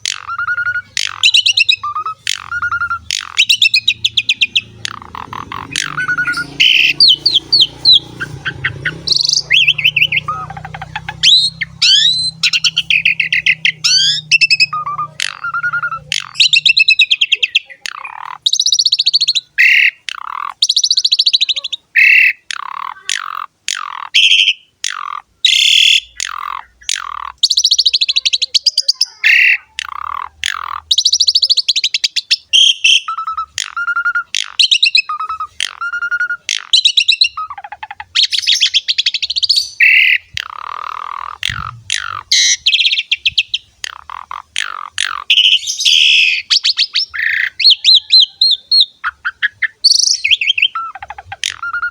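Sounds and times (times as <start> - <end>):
starling singing: 0.0 - 51.9.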